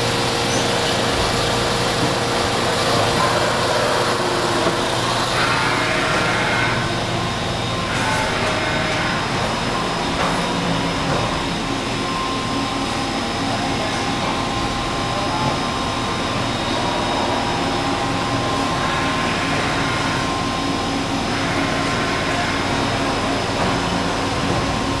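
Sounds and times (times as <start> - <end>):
machining center whirring and whining: 0.0 - 25.0.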